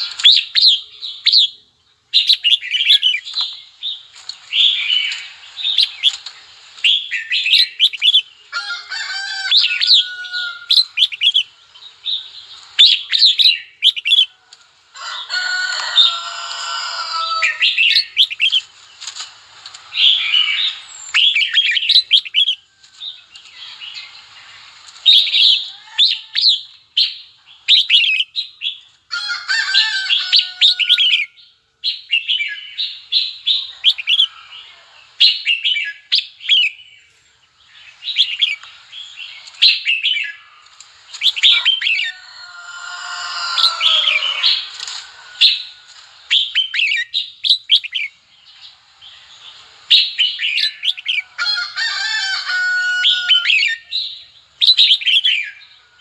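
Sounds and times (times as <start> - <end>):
bird singing warbling phrases: 0.0 - 8.5, 9.4 - 14.4, 15.9 - 19.2, 19.9 - 22.7, 23.4 - 28.9, 29.8 - 56.0.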